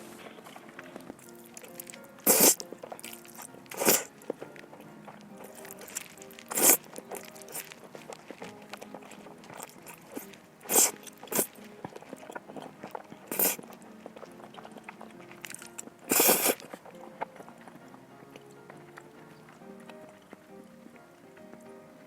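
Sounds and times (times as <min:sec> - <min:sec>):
chewing and mouth noise: 0:00.0 - 0:21.8
faint background music: 0:00.0 - 0:22.0.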